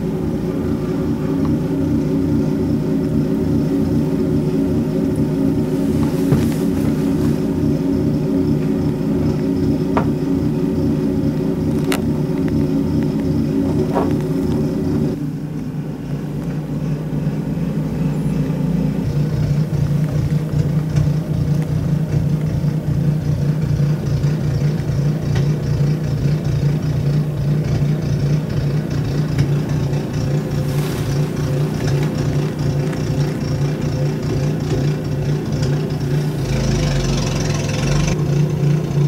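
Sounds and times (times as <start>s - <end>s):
snow blower engine running: 0.0s - 39.0s.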